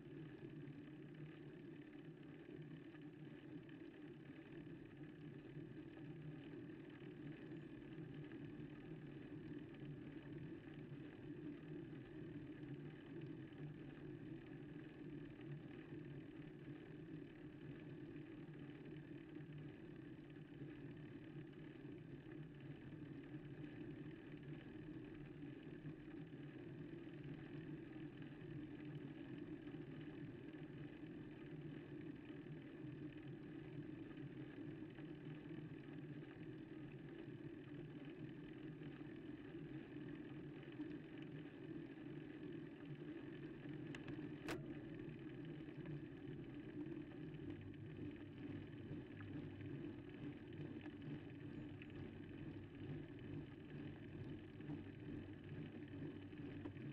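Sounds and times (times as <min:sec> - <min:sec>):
bicycle ride rumble and hum: 0:00.0 - 0:56.9.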